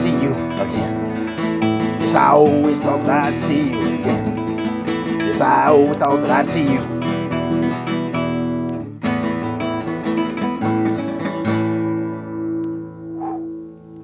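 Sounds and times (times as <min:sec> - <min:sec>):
classical guitar strumming chords: 0:00.0 - 0:14.0.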